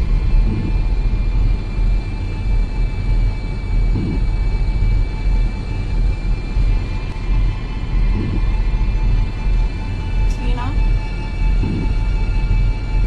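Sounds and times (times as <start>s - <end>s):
deep rumbling drone: 0.0s - 13.0s.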